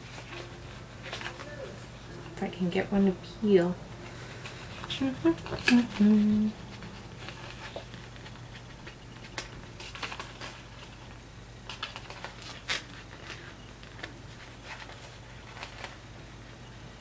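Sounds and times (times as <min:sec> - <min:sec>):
paper sticker sheet crinkling: 0:00.0 - 0:02.4, 0:04.0 - 0:16.2
faint steady hum: 0:00.0 - 0:17.0.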